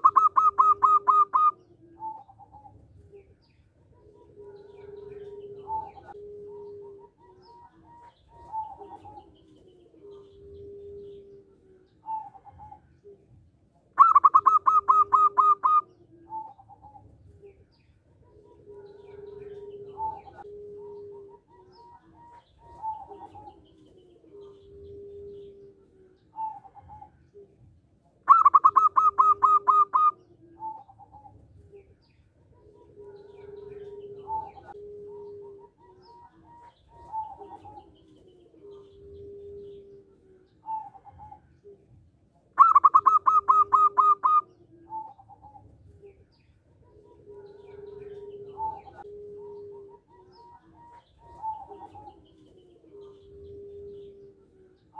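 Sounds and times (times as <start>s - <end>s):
dove staccato cooing song: 0.0s - 54.9s
soft low dove coos: 0.0s - 54.9s.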